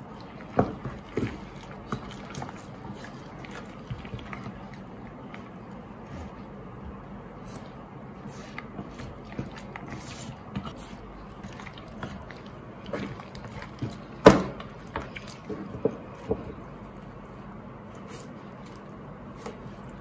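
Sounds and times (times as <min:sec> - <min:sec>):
handling wet meat: 0:00.0 - 0:20.0.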